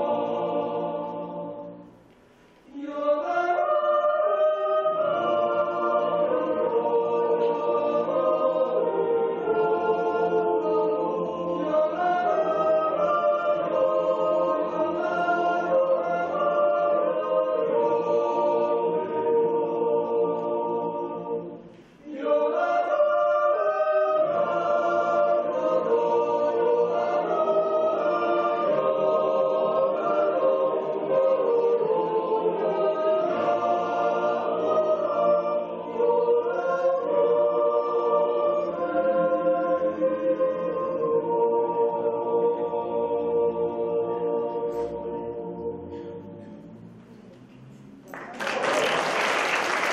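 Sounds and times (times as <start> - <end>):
men's choir yodelling a cappella: 0.0 - 1.8, 2.7 - 46.8.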